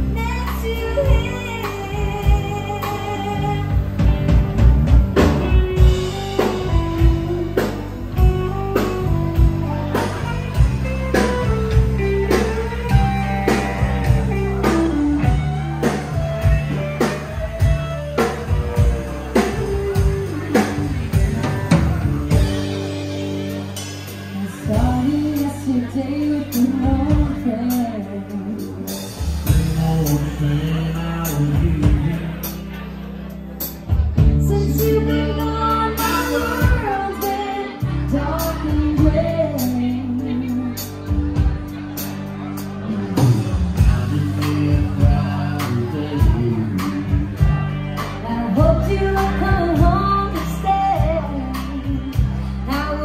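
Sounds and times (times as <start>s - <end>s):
bass guitar: 0.0s - 53.0s
drum kit: 0.0s - 53.0s
electric guitar: 0.0s - 53.0s.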